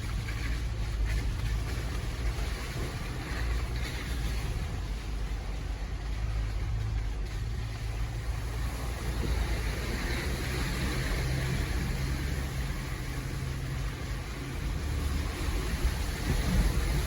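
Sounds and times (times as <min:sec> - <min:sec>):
tyre and trail noise: 0:00.0 - 0:17.0.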